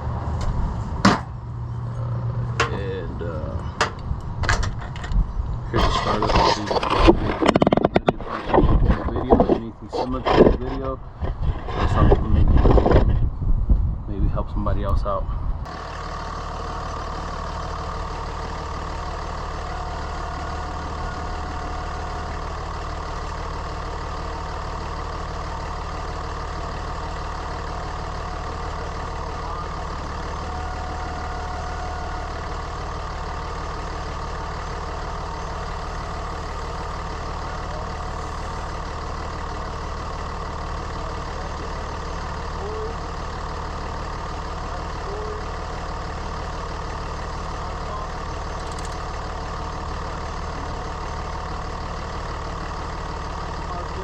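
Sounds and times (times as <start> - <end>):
alternator bearing howl: 0.0 - 13.5, 15.4 - 54.0
diesel engine idling: 0.0 - 54.0.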